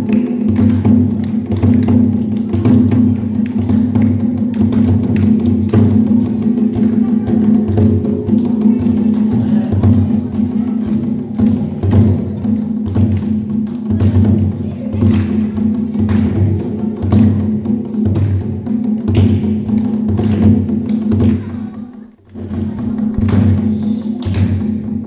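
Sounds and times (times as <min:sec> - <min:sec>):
percussion-led dance music: 0:00.0 - 0:25.0.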